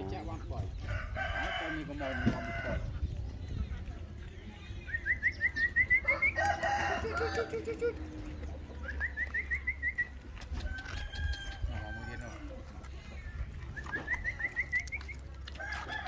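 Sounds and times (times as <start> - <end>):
chickens chirping: 0.0 - 16.0
chickens clucking: 0.0 - 16.0.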